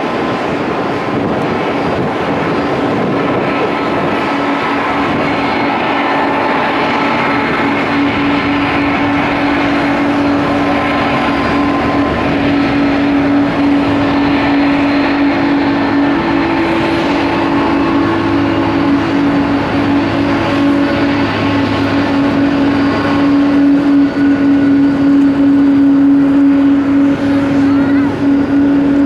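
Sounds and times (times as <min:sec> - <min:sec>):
jet engines humming: 0:00.0 - 0:29.0
turbine whine: 0:00.0 - 0:29.0.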